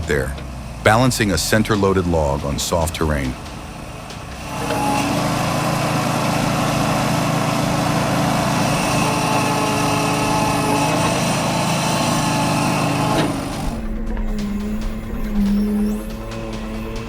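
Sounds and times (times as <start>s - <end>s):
machine engine running: 0.0s - 17.0s.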